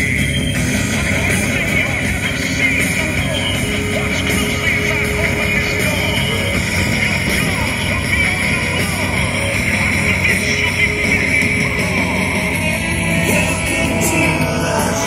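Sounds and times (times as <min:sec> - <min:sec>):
rock music over loudspeakers: 0:00.0 - 0:15.0.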